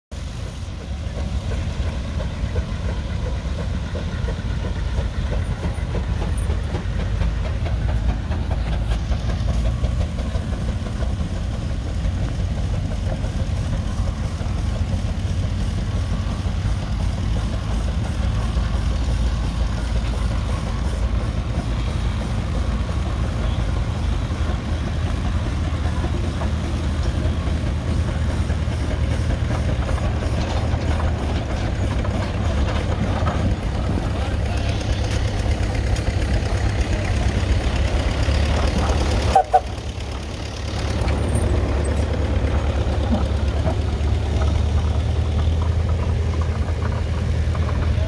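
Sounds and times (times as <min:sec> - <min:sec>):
steam engine exhaust chuffing: 0:00.1 - 0:48.0.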